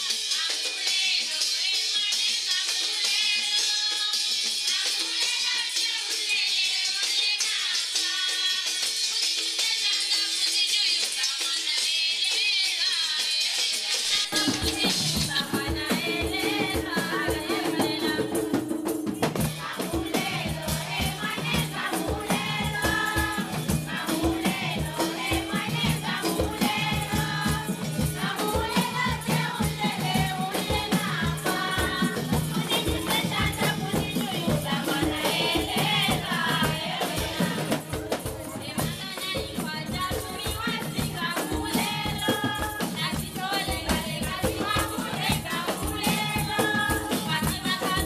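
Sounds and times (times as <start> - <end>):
tambourines beating: 0.0 - 48.0
women singing together: 0.0 - 48.0.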